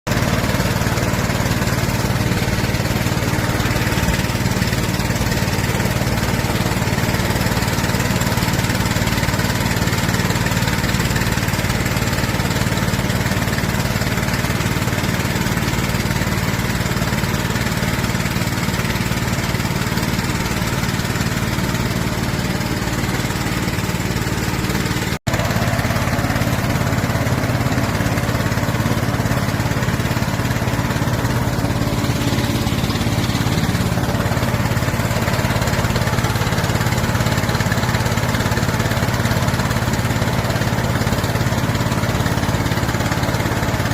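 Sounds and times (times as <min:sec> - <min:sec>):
small engine running steadily: 0:00.1 - 0:43.9.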